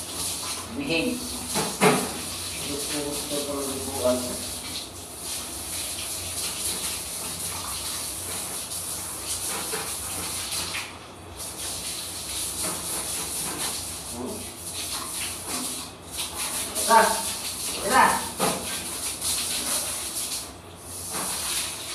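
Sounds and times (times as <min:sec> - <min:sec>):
water spraying from shower: 0:00.0 - 0:21.9.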